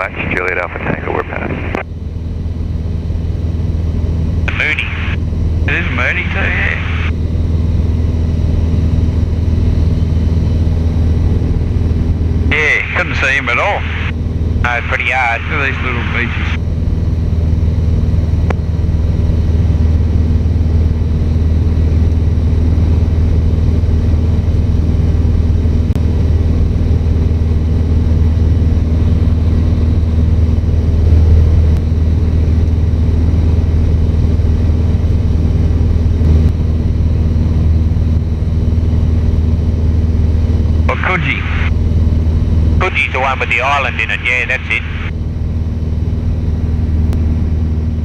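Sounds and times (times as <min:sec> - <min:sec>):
airplane engine and propeller droning: 0:00.0 - 0:48.0.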